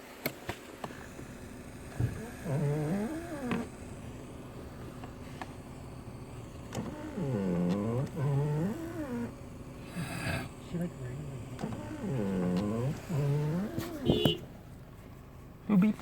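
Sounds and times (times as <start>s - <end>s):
car groaning moan: 0.8s - 14.6s.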